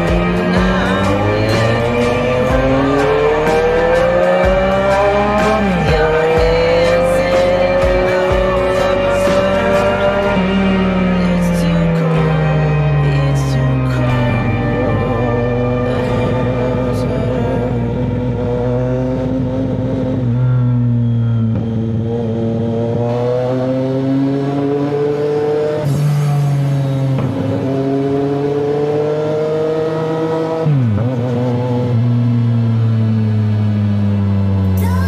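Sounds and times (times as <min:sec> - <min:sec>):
motorcycle engine under throttle: 0:00.0 - 0:35.0.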